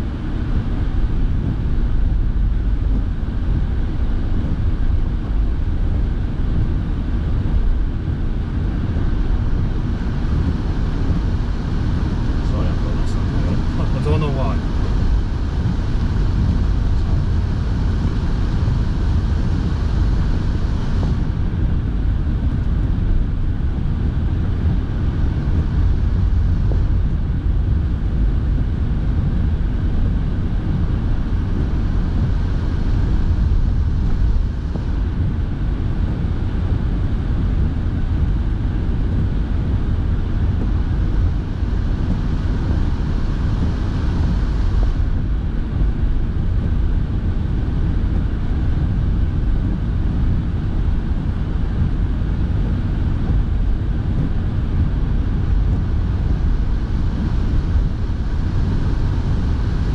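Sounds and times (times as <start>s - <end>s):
car engine and road noise: 0.0s - 59.9s
car heater blowing: 0.0s - 59.9s.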